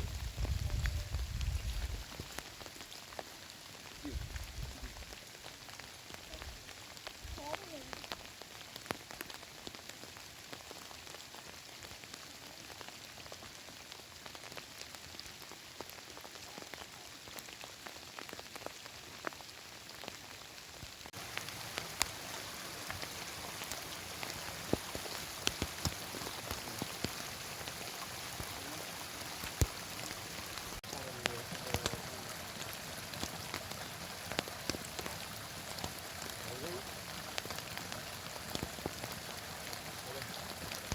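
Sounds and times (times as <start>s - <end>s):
heavy rain falling: 0.0s - 40.9s
raindrops striking close by: 0.0s - 40.9s.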